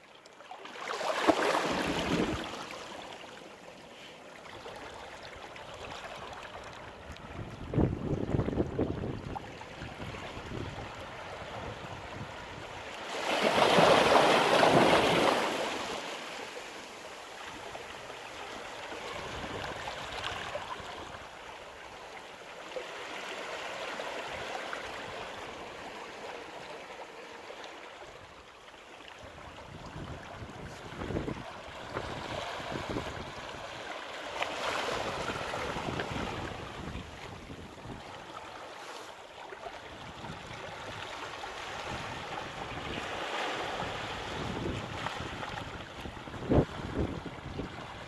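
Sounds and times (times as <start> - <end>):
waves washing on shore: 0.6 - 21.5, 29.1 - 48.0.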